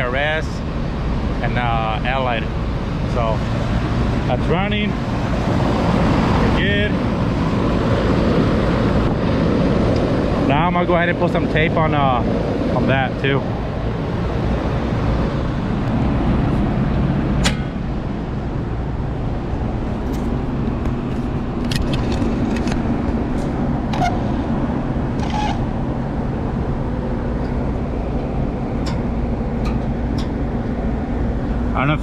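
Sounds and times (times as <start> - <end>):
hvac blower droning: 0.0 - 32.0.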